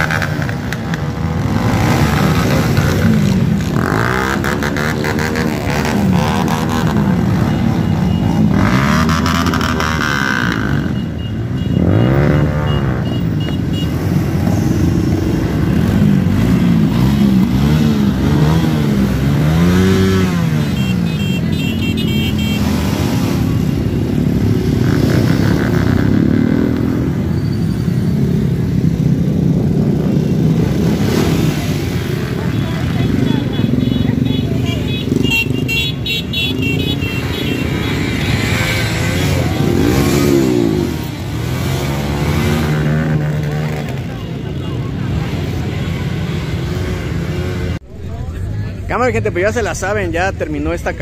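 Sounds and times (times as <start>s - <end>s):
motorcycle engines revving: 0.0s - 51.0s.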